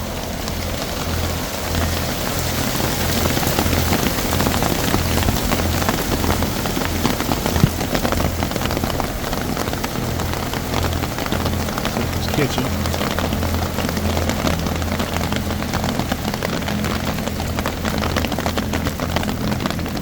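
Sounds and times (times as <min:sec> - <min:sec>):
heavy rain on an umbrella: 0:00.0 - 0:20.0.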